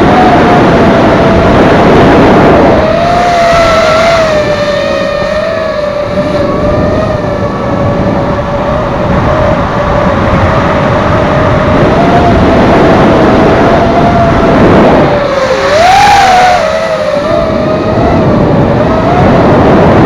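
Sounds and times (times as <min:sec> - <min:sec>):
drone motors whining: 0:00.0 - 0:20.0
propeller wash and wind rushing: 0:00.0 - 0:20.0.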